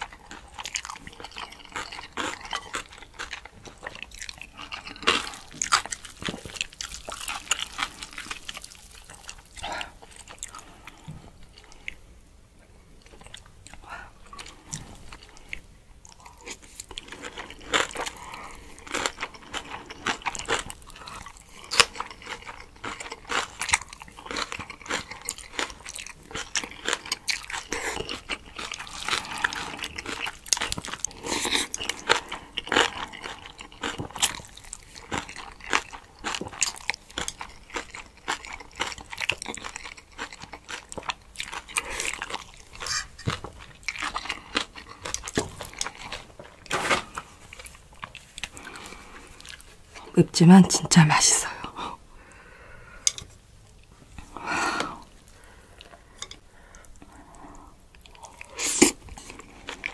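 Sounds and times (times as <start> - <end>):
chewing and biting noodles: 0.0 - 12.0, 13.1 - 49.7, 57.0 - 59.9.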